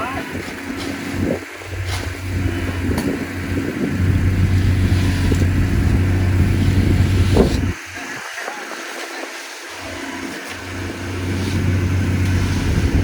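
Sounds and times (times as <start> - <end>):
heavy engine humming: 0.0 - 8.2, 9.7 - 13.0.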